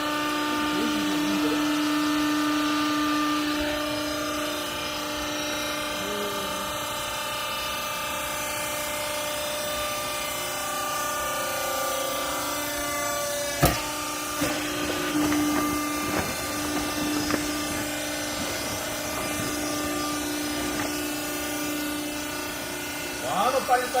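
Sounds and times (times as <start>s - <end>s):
baler motor hum: 0.0s - 24.0s.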